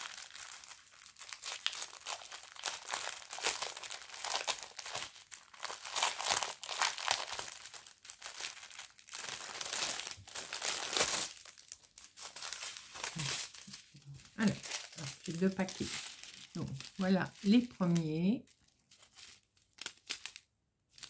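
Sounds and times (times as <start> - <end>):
plastic packets crinkling: 0.0 - 21.0.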